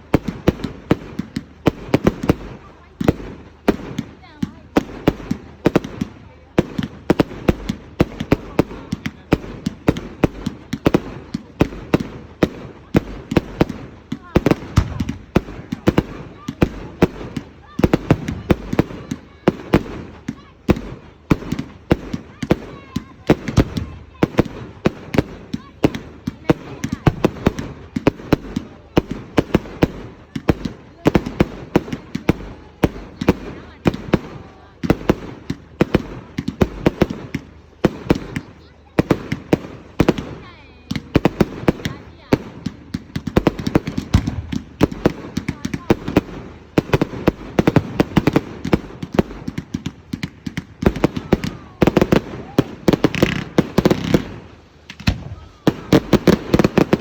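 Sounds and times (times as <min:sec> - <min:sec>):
fireworks bangs and pops: 0:00.0 - 0:57.0
fireworks crackling: 0:00.0 - 0:57.0.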